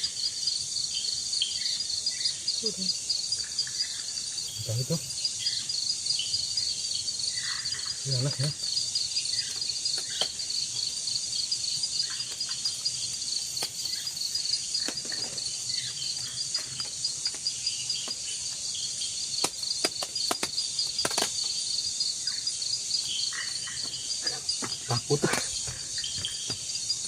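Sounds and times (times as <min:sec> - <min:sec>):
night insects trilling: 0:00.0 - 0:27.0.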